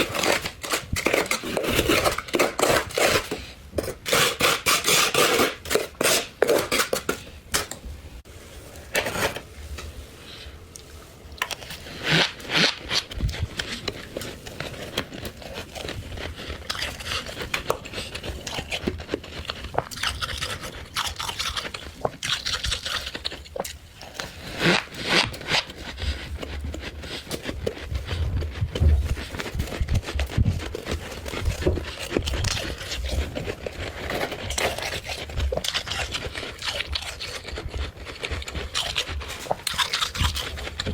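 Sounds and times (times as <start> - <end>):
frost being scraped and crunched: 0.0 - 7.3, 8.4 - 40.9.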